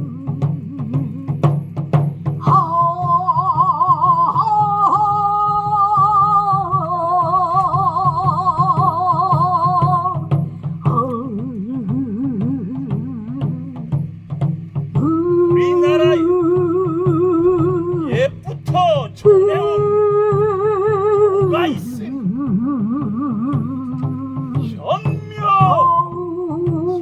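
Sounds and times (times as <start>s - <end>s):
pulsing accompaniment: 0.0s - 27.0s
traditional singing with vibrato: 0.0s - 27.0s.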